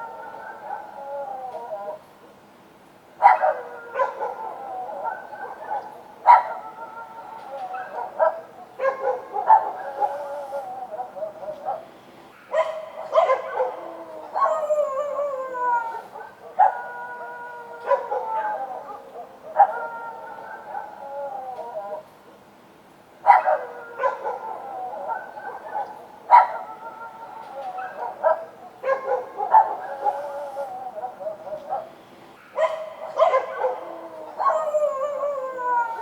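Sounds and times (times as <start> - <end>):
dogs barking and howling: 0.0 - 2.1, 3.2 - 22.1, 23.2 - 36.0.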